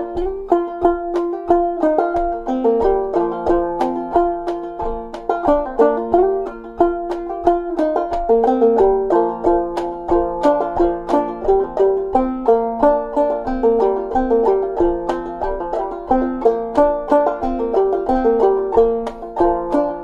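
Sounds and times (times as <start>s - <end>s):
banjo plucked notes: 0.0s - 20.0s.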